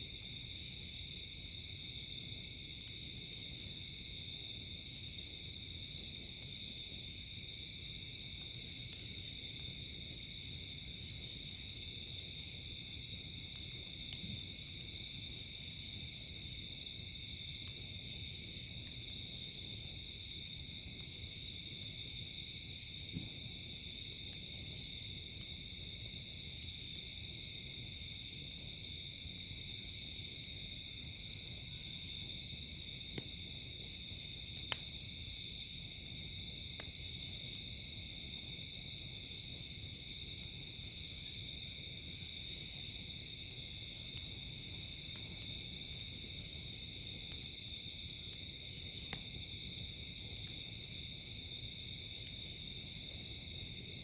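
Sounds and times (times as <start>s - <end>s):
campfire popping: 0.0s - 54.0s
high pulsing insect call: 0.0s - 54.0s
night insects chorus: 0.0s - 54.0s.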